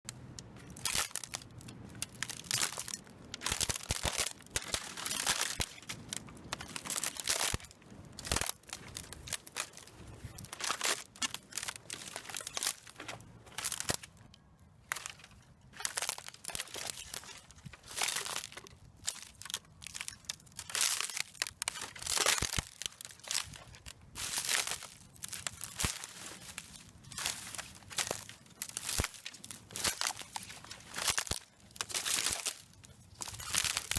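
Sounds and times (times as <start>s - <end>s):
footsteps crunching dry canes: 0.2s - 33.9s.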